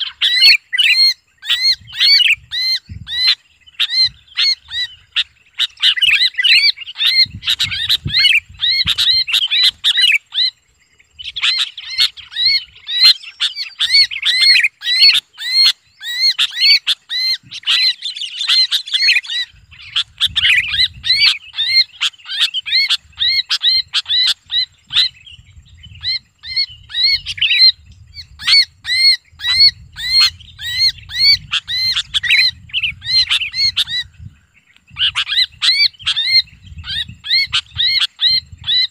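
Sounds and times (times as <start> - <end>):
bird distress screams: 0.0 - 10.6, 11.3 - 34.2, 34.9 - 38.9.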